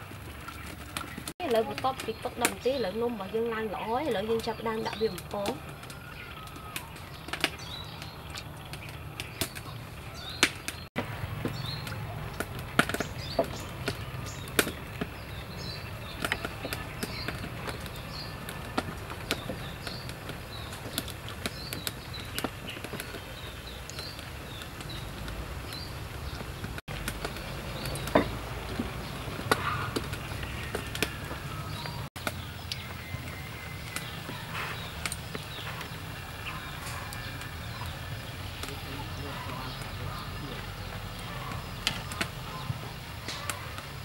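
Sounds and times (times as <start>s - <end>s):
dough deep-frying in oil: 0.0s - 44.0s.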